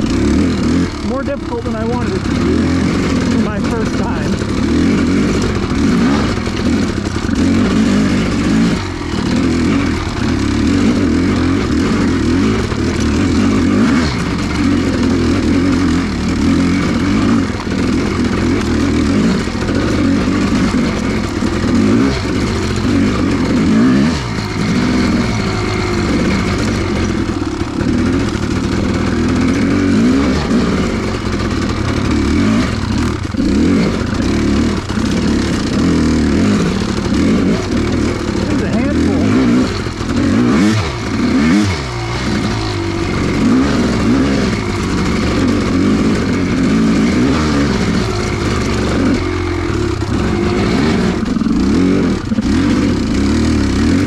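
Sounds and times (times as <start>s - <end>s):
motorcycle two-stroke engine revving: 0.0s - 54.0s.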